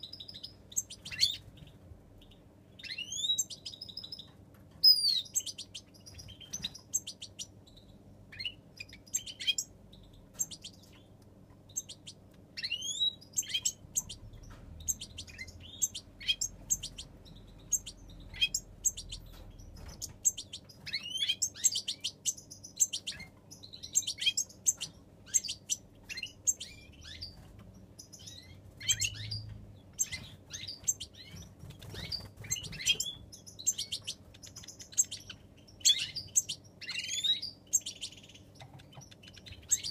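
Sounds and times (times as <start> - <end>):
goldfinches chirping and twittering: 0.0 - 39.9.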